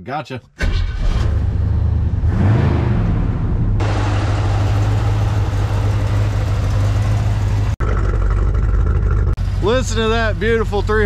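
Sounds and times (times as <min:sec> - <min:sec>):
engine revving and idling: 0:01.0 - 0:11.0.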